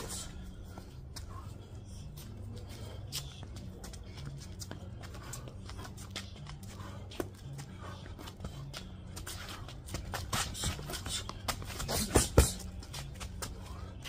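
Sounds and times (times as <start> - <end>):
low steady hum: 0.0 - 14.0
shoes scuffing on concrete: 0.0 - 14.0.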